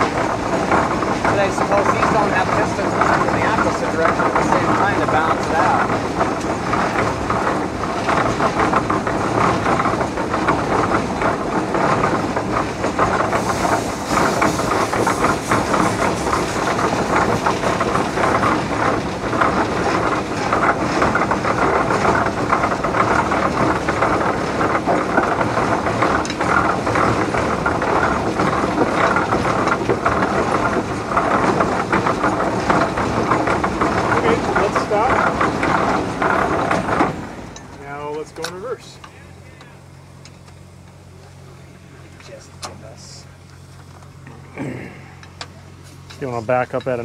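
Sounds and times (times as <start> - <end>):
steam engine mechanical clatter: 0.0 - 47.0.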